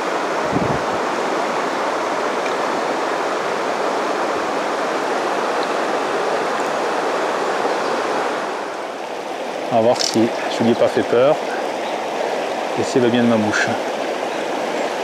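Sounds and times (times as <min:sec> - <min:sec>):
fast river current rushing: 0:00.0 - 0:15.0.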